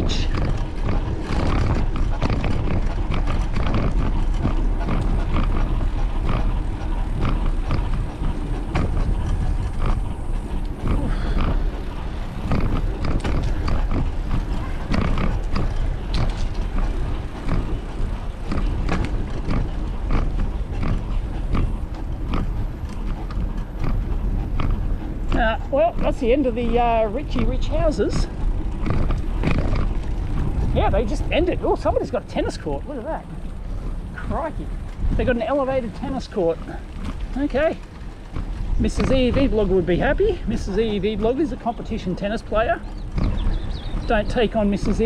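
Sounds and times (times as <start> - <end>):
bicycle rolling rumble: 0.0 - 45.0
bike clicks and rattles: 0.0 - 45.0.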